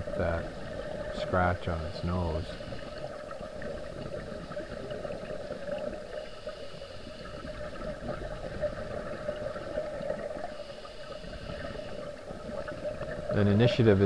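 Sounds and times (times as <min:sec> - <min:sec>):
steady hum: 0:00.0 - 0:14.0
underwater bubbling and gurgling: 0:00.0 - 0:14.0.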